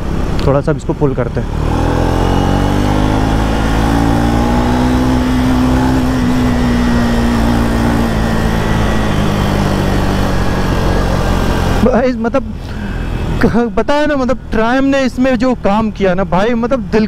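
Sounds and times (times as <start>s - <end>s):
motorcycle engine under throttle: 0.0s - 17.0s
wind and road noise: 0.0s - 17.0s.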